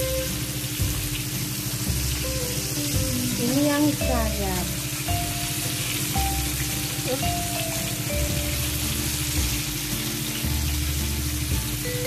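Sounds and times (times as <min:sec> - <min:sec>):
background music with beat: 0:00.0 - 0:12.0
chicken deep-frying in oil: 0:00.0 - 0:12.0.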